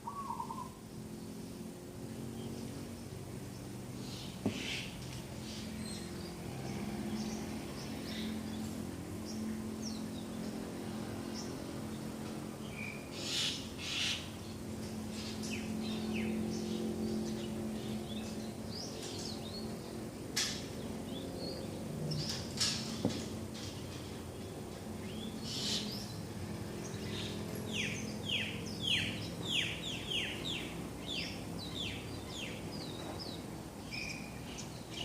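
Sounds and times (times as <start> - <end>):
birds chirping and calling: 0.0 - 0.8, 2.0 - 12.0, 12.6 - 35.0
steady low hum: 0.0 - 35.0.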